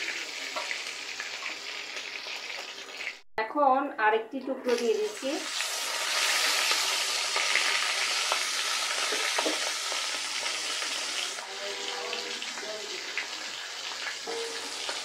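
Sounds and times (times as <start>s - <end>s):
fish frying in oil: 0.0s - 3.2s, 5.1s - 15.0s.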